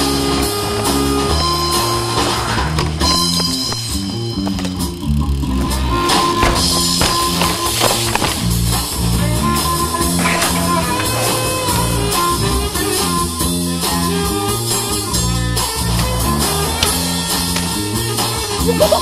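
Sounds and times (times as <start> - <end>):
guitar-led music with bass: 0.0 - 19.0.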